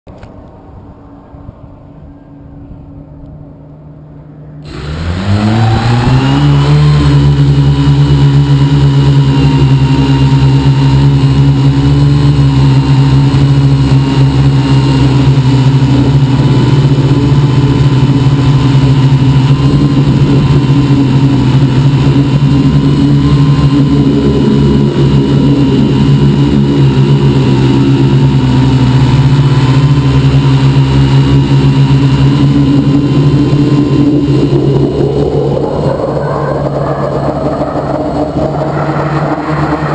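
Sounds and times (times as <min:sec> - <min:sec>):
drone motors humming: 0:00.1 - 0:39.9.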